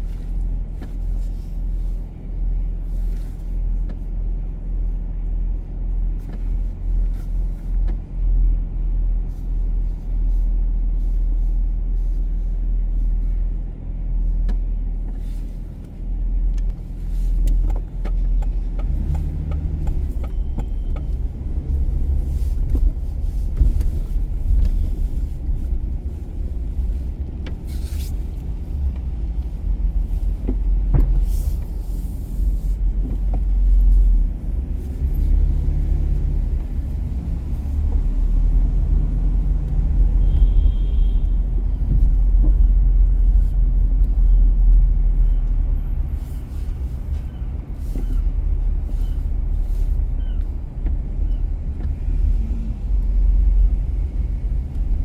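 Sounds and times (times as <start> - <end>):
car engine and tyre rumble: 0.0 - 55.0
deep engine hum: 0.0 - 55.0.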